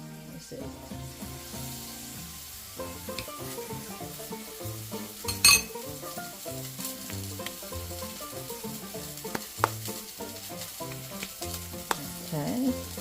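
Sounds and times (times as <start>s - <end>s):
burger patties sizzling in a frying pan: 0.0s - 13.0s.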